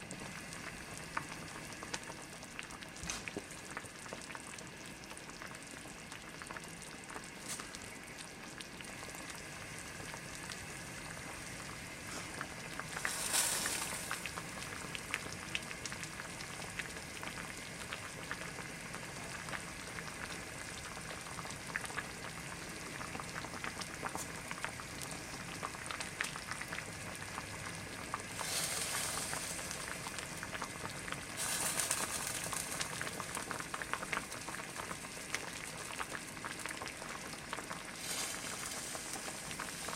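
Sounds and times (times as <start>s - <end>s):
stew bubbling in a pot: 0.0s - 39.9s
pot hissing: 2.8s - 39.9s.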